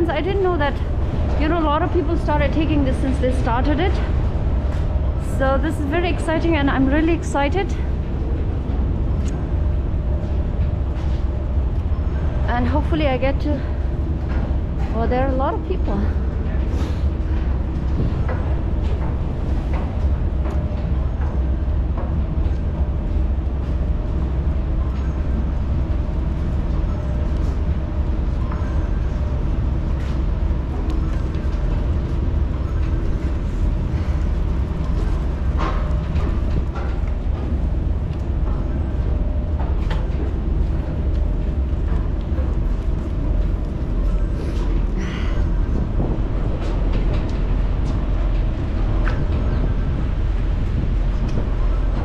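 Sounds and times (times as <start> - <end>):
ferry engines rumbling: 0.0 - 52.0.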